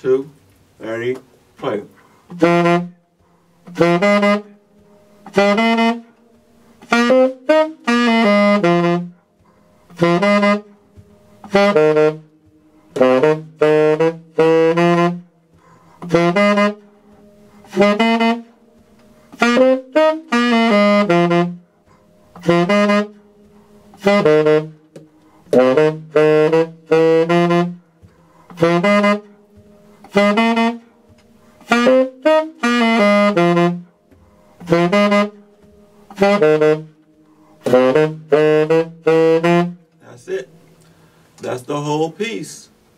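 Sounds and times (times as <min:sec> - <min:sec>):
tenor saxophone riff: 0:00.8 - 0:41.2.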